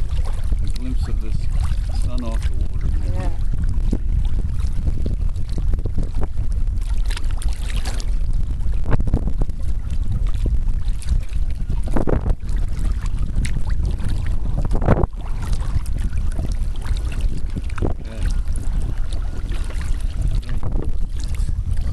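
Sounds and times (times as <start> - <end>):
paddle splashing in water: 0.0 - 21.9
wind buffeting microphone: 0.0 - 21.9.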